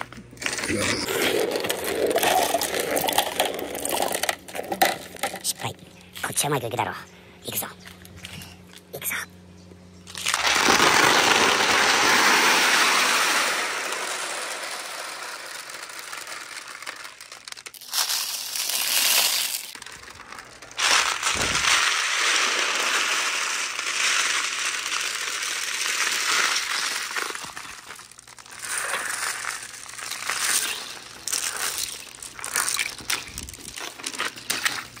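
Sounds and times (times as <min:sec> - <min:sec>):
marbles rolling and clattering: 0:00.4 - 0:05.7, 0:10.1 - 0:35.0.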